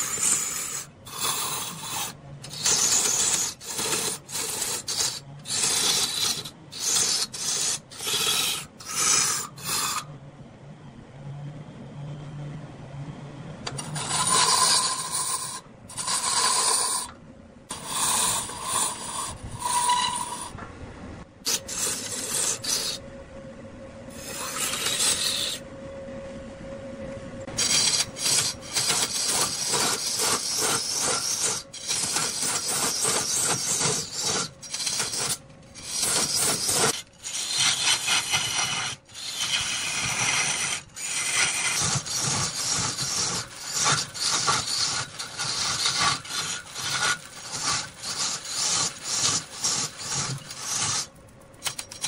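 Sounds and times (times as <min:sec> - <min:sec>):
tool scraping wood on lathe: 0:00.0 - 0:10.1, 0:13.7 - 0:20.6, 0:21.5 - 0:23.0, 0:24.1 - 0:25.6, 0:27.5 - 0:52.0.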